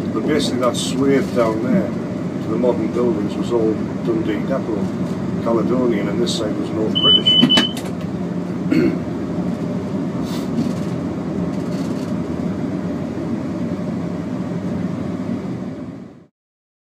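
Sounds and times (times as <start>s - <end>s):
diesel train running rumble: 0.0s - 16.3s.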